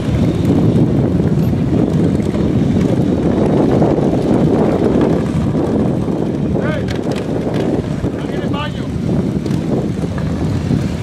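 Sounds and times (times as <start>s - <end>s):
motorcycles rumbling past: 0.0s - 11.0s
wind buffeting microphone: 0.0s - 11.0s.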